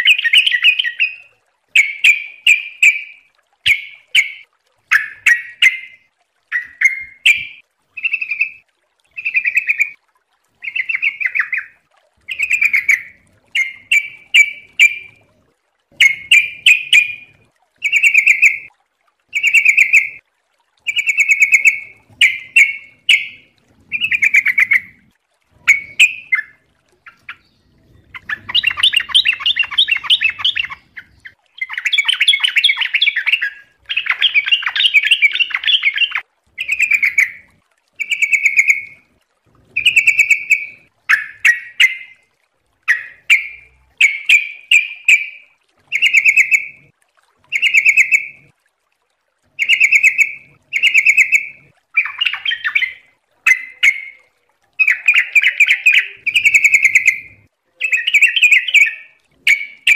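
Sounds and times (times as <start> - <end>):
bulbul chattering song: 0.0 - 10.0, 10.6 - 18.7, 19.3 - 20.2, 20.9 - 46.9, 47.5 - 48.5, 49.6 - 59.9.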